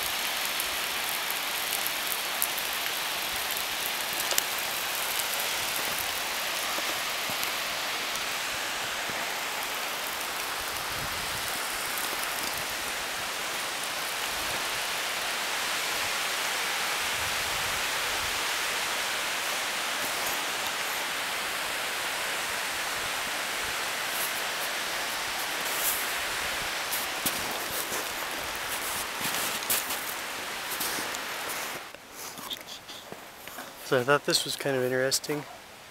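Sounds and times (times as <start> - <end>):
running water: 0.0 - 35.9.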